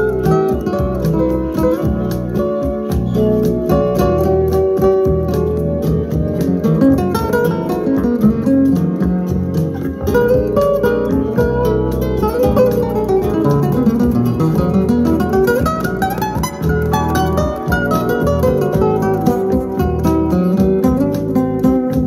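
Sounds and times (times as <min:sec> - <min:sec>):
plucked strings music on speakers: 0:00.0 - 0:22.0.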